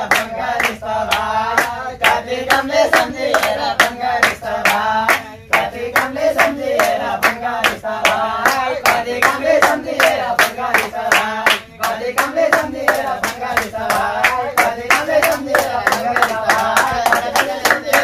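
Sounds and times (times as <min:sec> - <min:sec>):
men clapping in rhythm: 0:00.0 - 0:18.0
men singing: 0:00.0 - 0:18.0.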